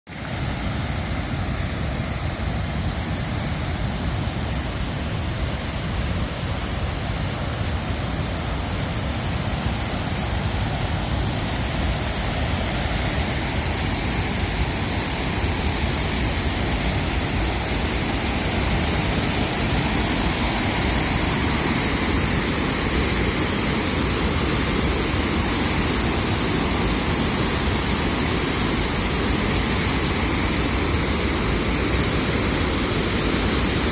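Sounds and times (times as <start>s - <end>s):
water roaring through spillway: 0.1s - 33.9s.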